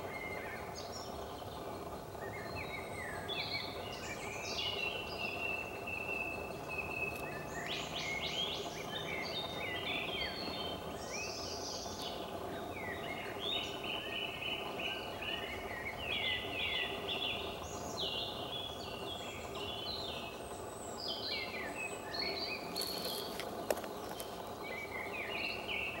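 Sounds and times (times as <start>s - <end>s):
songbirds singing and chirping: 0.0s - 26.0s
steady background hum: 0.0s - 26.0s.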